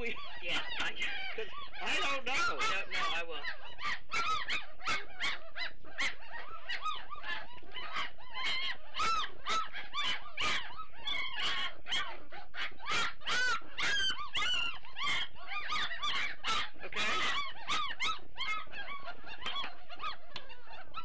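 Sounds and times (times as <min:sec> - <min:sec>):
puppies squealing and whining: 0:00.0 - 0:21.0.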